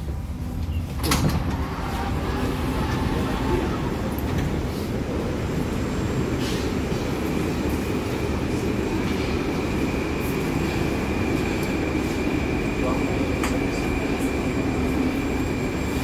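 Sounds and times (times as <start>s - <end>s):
train low rumble and hum: 0.0s - 16.0s.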